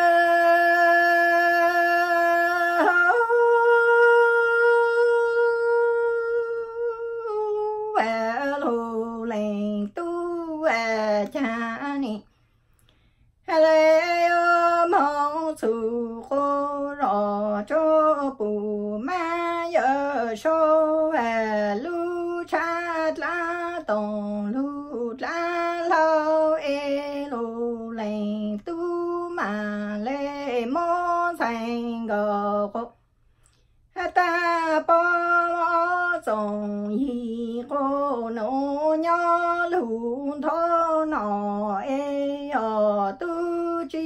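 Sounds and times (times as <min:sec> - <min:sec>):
woman singing unaccompanied: 0:00.0 - 0:12.3, 0:13.4 - 0:33.0, 0:33.9 - 0:44.0.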